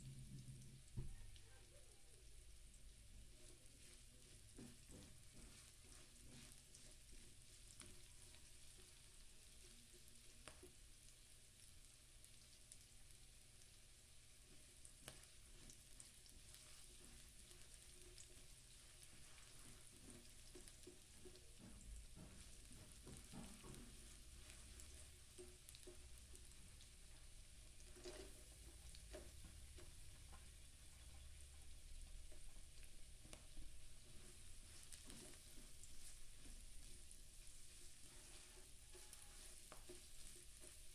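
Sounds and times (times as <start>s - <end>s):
onion sizzling in oil: 0.0s - 40.9s
spatula scraping and tapping pan: 3.3s - 11.2s, 14.4s - 40.9s.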